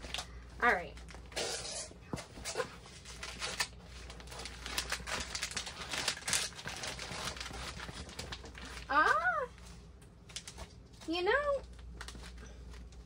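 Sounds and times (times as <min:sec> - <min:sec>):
plastic rustling and crinkling: 0:02.1 - 0:13.0.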